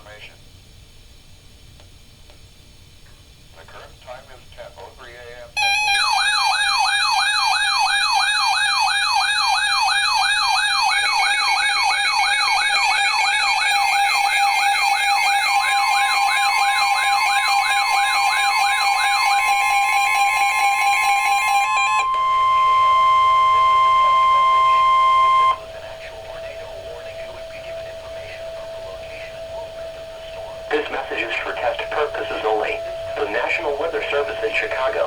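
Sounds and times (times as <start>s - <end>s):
siren-like warble alarm: 5.6s - 35.0s.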